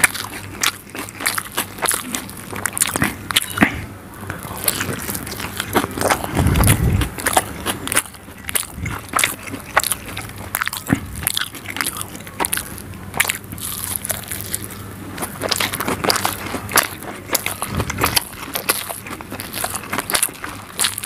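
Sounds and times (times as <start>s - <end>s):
wet chewing with lip smacks: 0.0s - 21.0s.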